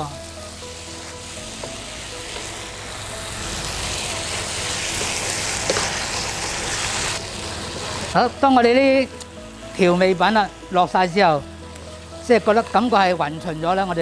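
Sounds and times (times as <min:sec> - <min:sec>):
filling sizzling in a frying pan: 0:00.0 - 0:14.0.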